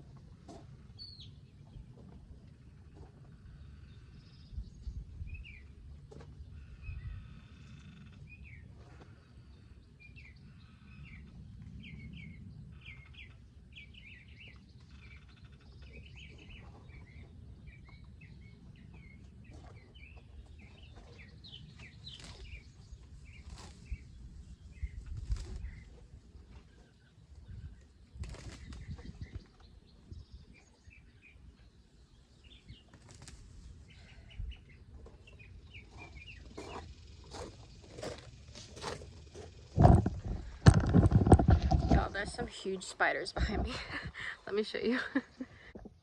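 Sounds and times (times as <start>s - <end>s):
steady low rumble: 0.0s - 45.8s
birds chirping: 0.5s - 46.0s.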